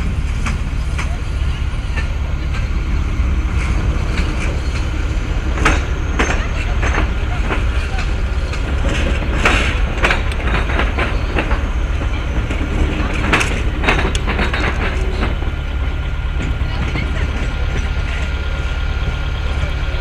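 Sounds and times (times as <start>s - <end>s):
train rumble: 0.0s - 20.0s
train wheels clicking over rail joints: 0.0s - 20.0s.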